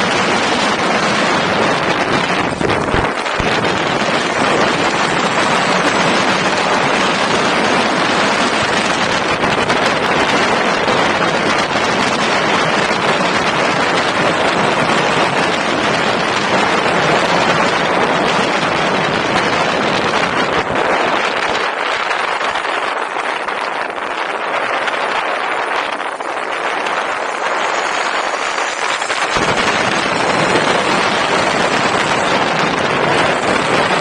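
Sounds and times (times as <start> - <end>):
wind rushing on microphone: 0.0 - 34.0.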